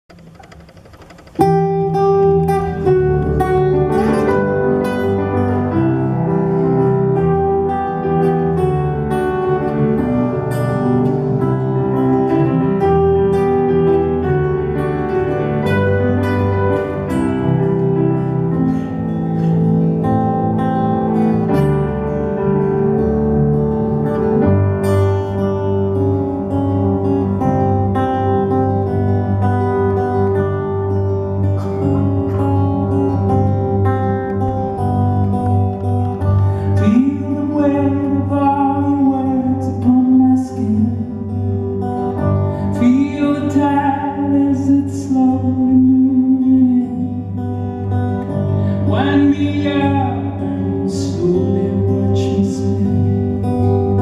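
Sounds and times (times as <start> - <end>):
acoustic guitar: 0.0 - 54.0
keyboard playing: 0.0 - 54.0.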